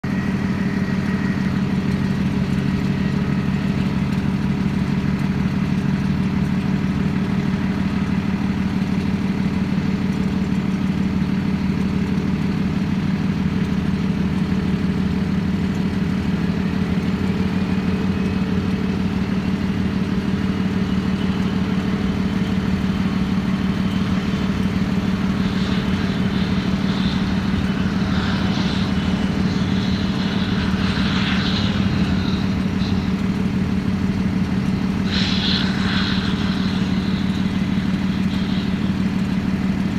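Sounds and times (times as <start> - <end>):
jet engine drone: 0.0 - 39.9
jet engine whine rising: 0.0 - 39.9.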